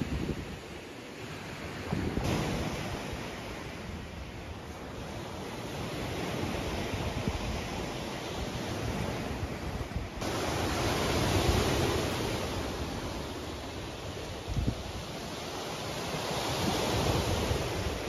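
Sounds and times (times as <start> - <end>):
waves breaking on shore: 0.0 - 18.0
wind on microphone: 0.0 - 18.0.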